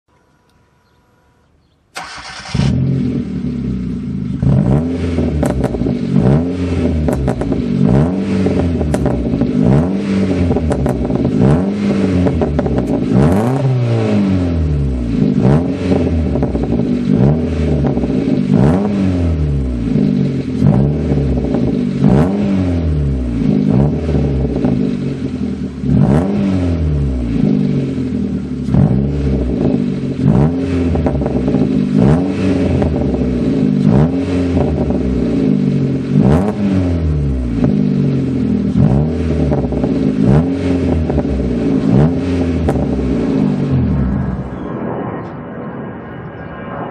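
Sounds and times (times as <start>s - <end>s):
car engine starting: 1.9s - 44.7s
car engine revving: 2.0s - 45.4s.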